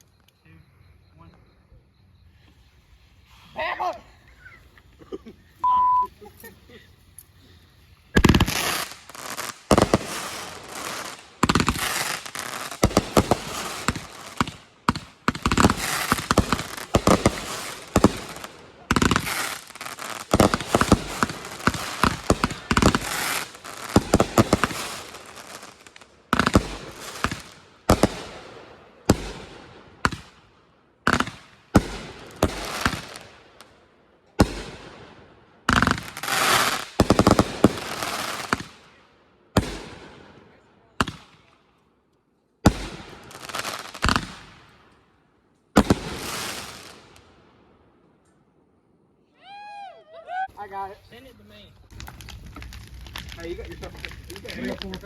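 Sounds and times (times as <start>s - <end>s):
fireworks crackling: 2.3s - 41.6s, 42.6s - 45.1s, 45.7s - 47.6s, 50.5s - 55.0s
fireworks bangs and pops: 2.5s - 41.7s, 42.6s - 45.0s, 45.7s - 47.4s, 50.8s - 55.0s.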